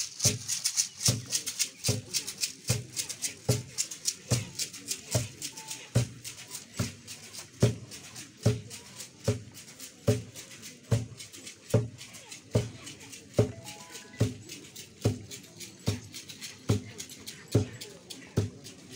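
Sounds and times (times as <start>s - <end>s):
wooden drum beaten slowly: 0.0s - 18.9s.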